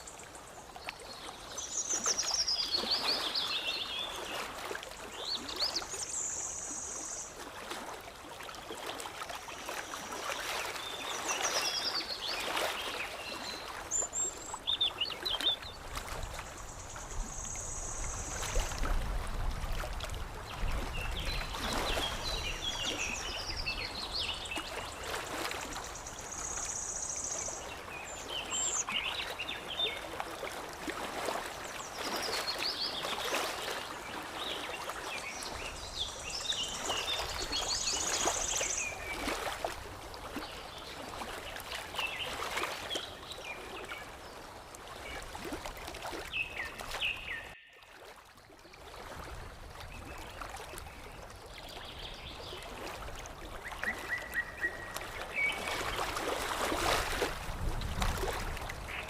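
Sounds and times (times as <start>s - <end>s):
water lapping: 0.0s - 59.0s.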